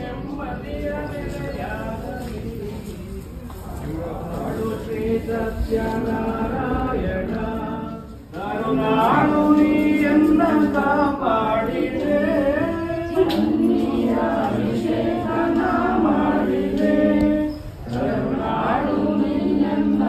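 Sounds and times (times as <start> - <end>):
voices singing devotional song: 0.0 - 20.0.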